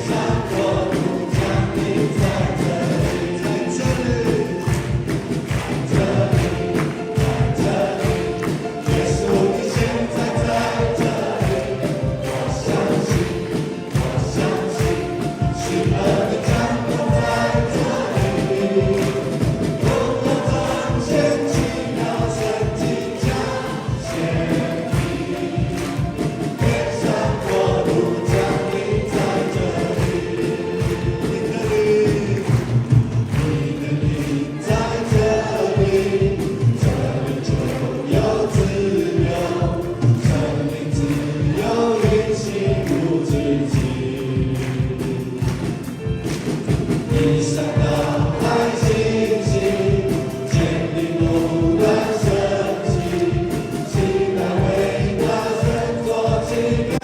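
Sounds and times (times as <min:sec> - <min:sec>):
steady drum beat: 0:00.0 - 0:57.0
worship band and singers: 0:00.0 - 0:57.0.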